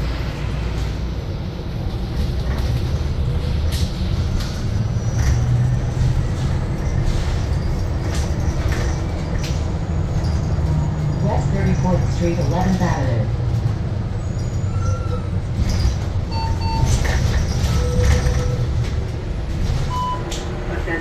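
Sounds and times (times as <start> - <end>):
bus ride rumble: 0.0 - 21.0
body rattles and clicks: 1.9 - 13.8, 15.5 - 20.6.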